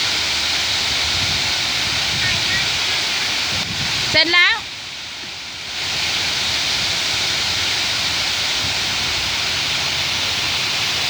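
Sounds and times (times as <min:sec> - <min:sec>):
water pouring down waterfall: 0:00.0 - 0:11.0.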